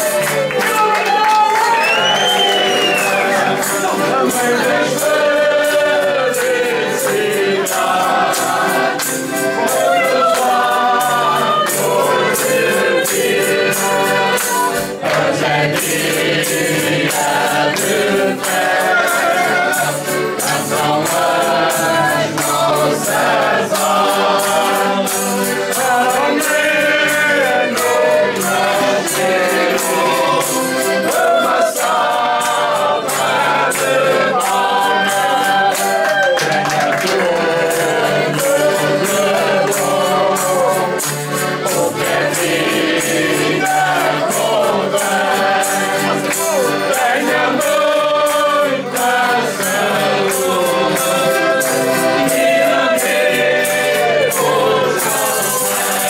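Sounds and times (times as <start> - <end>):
percussion beat: 0.0 - 56.0
voices singing in chorus: 0.0 - 56.0.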